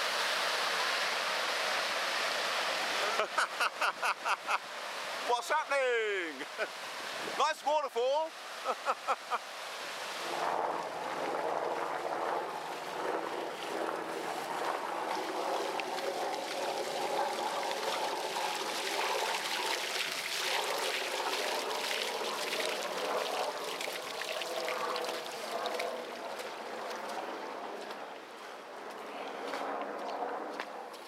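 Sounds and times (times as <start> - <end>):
floodwater rushing down steps: 0.0 - 28.6.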